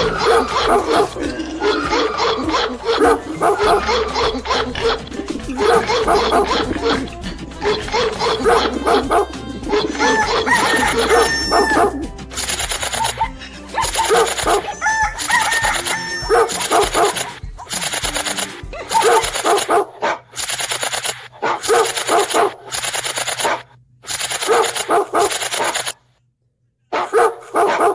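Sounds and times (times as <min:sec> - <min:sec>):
dog barking: 0:00.0 - 0:26.0, 0:26.9 - 0:27.9.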